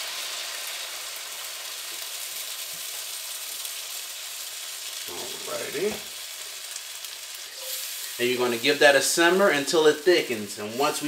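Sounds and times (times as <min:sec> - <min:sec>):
onions frying in a skillet: 0:00.0 - 0:11.0.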